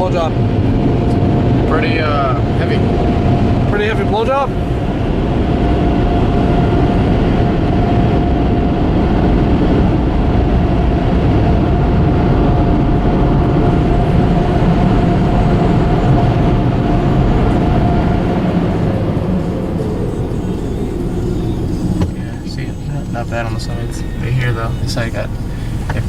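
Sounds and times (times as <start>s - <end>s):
car wash air blowers: 0.0s - 26.0s.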